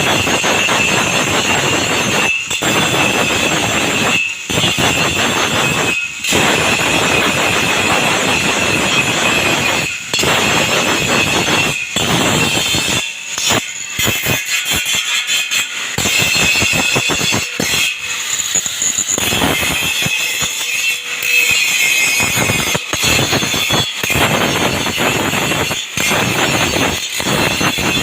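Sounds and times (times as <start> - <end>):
angle grinder grinding metal: 0.0 - 28.0.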